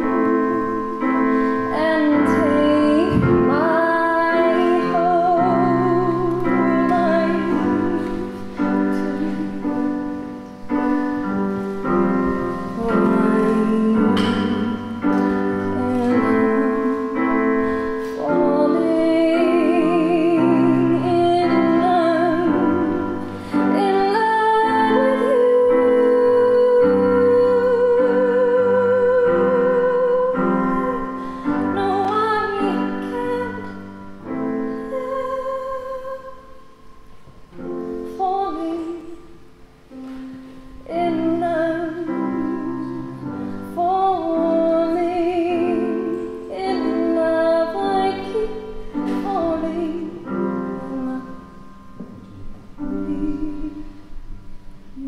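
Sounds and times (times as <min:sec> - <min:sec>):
woman singing with vibrato: 0:00.0 - 0:11.4, 0:12.0 - 0:36.7, 0:37.8 - 0:39.4, 0:40.8 - 0:51.7, 0:52.8 - 0:54.2
piano accompaniment: 0:00.0 - 0:55.0.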